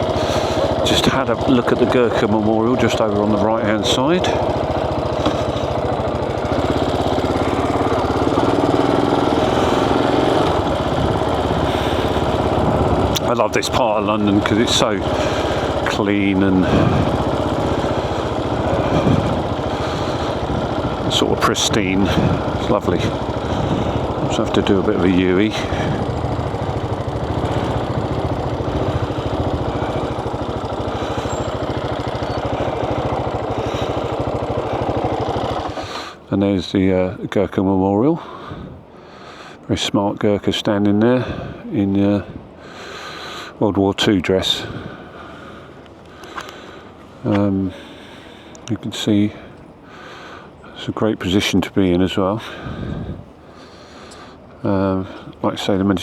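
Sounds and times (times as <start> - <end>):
motorcycle engine running: 0.0 - 37.2, 44.4 - 48.6, 52.4 - 56.0.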